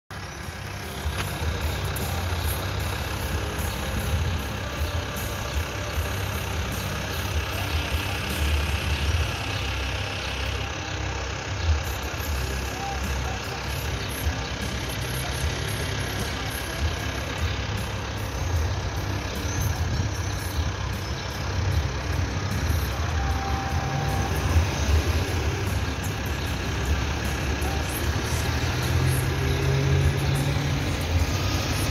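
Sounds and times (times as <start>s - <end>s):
street noise: 0.1s - 31.9s
vehicle engine idling: 0.1s - 31.9s.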